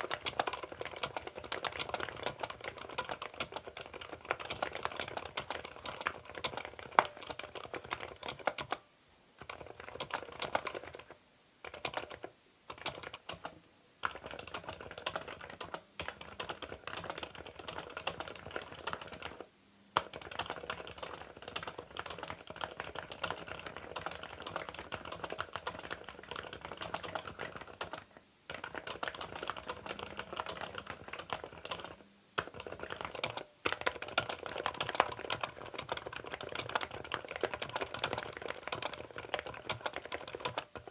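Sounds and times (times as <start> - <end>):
fast typing on mechanical keyboard: 0.0 - 8.8, 9.4 - 40.9.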